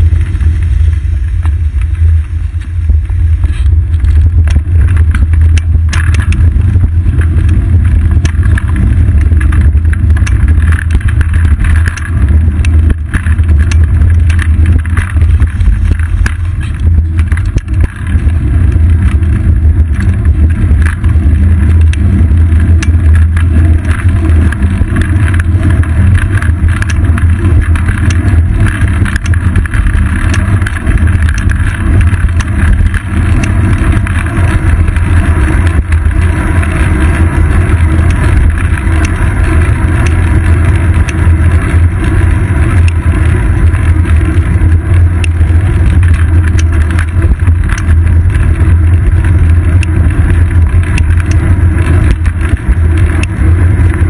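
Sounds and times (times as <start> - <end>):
wind and road rumble: 0.0 - 54.0.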